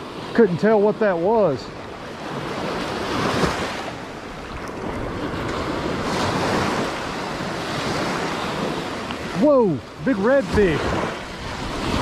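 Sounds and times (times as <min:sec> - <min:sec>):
ocean surf breaking: 0:00.0 - 0:12.0
wind rumbling on microphone: 0:02.3 - 0:12.0.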